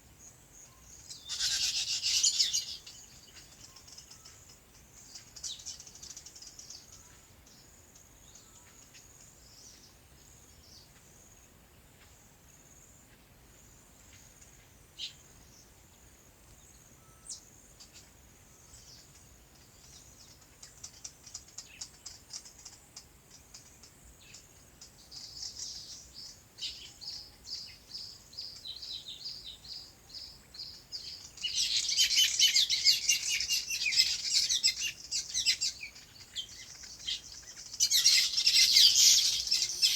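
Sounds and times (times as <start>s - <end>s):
small birds chirping: 0.0s - 11.4s, 13.9s - 39.9s.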